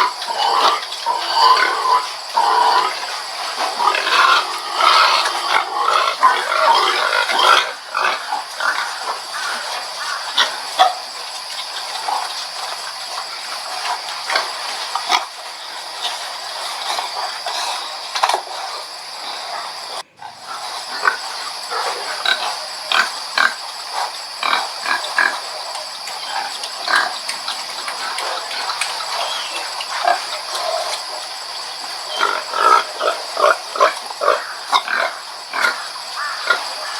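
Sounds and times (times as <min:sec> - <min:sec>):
pigs grunting: 0:00.0 - 0:36.9.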